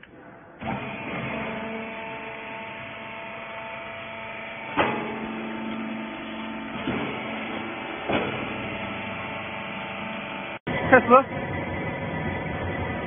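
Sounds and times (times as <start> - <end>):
baler motor hum: 0.6 - 13.0.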